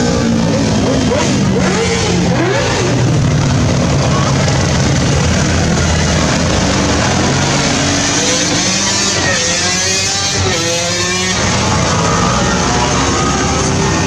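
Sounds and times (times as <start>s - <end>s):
quad bikes and motorcycles passing: 0.0s - 14.0s.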